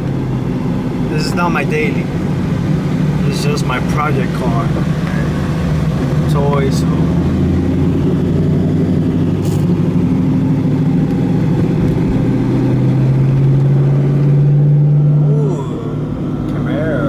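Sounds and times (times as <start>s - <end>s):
car exhaust droning: 0.0s - 17.0s.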